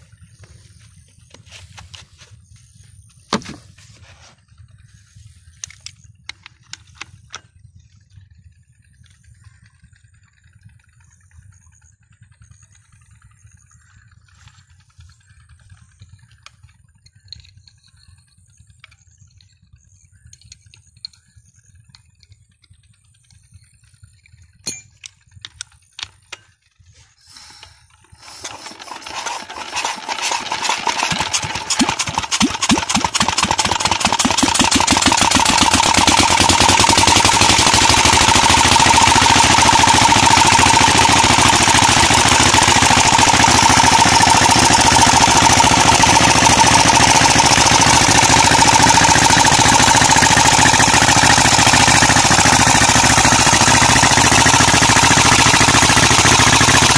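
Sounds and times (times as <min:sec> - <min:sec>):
diesel engine starting and running: 0:00.0 - 0:56.9.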